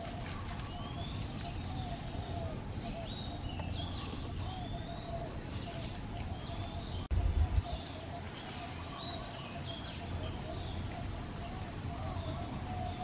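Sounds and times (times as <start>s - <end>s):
birds singing: 0.0s - 13.0s
repeated lower bird calls: 0.0s - 13.0s.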